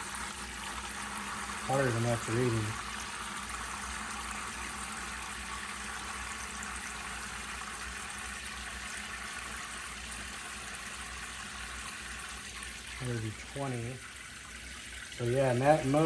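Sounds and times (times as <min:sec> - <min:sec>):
shower spraying water: 0:00.0 - 0:05.1, 0:06.1 - 0:16.0.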